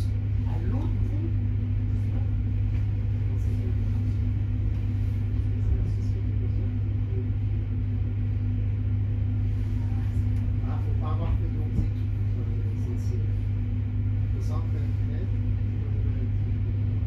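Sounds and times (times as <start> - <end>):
higher steady hum: 0.0 - 17.0
train cabin low rumble: 0.0 - 17.0.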